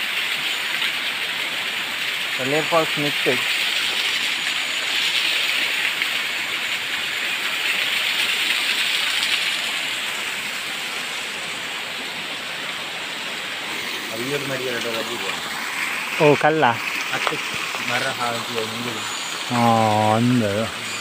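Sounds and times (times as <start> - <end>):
waterfall splashing over rocks: 0.0 - 21.0.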